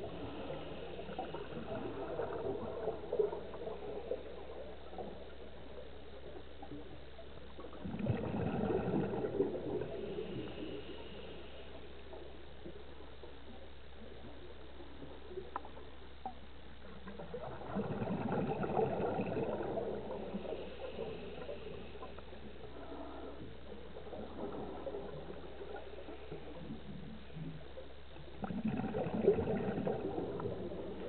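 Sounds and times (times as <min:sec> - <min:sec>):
steady low hum: 0:00.0 - 0:31.0
underwater bubbles gurgling: 0:00.0 - 0:31.0.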